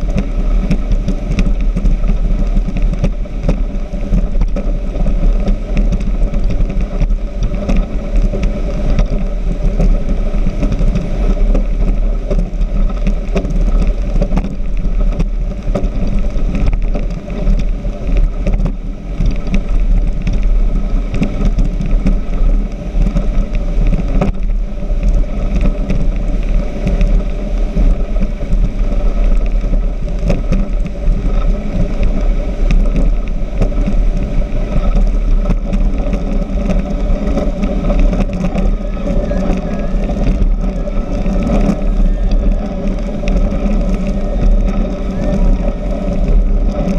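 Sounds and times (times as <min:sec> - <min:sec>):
rushing water: 0:00.0 - 0:46.9
speedboat engine running: 0:00.0 - 0:46.9.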